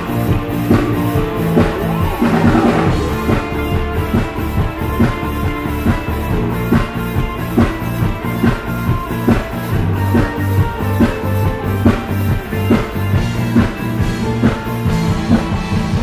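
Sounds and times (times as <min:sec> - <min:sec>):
drum kit beat: 0:00.0 - 0:16.0
rock band playing live: 0:00.0 - 0:16.0.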